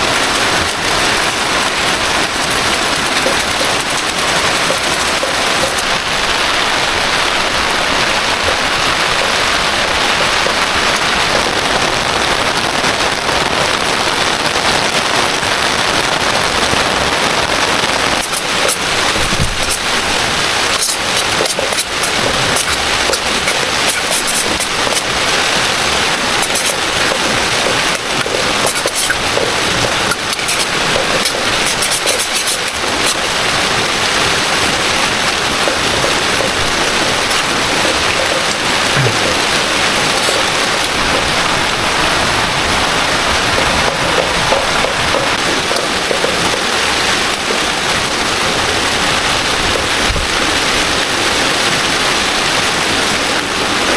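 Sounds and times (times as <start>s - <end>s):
heavy rain: 0.0s - 53.9s.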